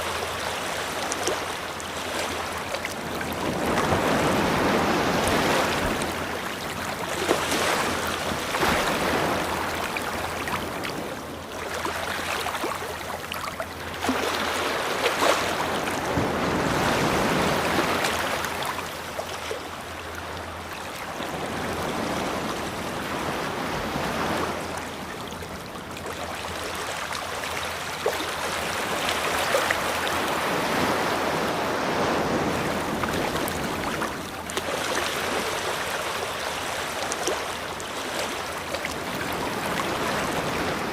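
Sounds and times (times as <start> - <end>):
ocean waves on shore: 0.0 - 40.9.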